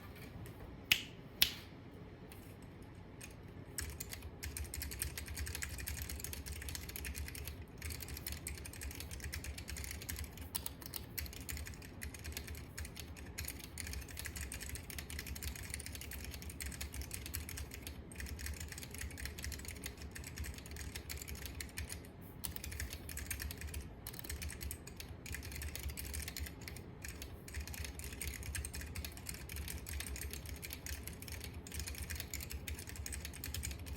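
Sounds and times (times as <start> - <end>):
mechanical keyboard typing: 3.2 - 33.9.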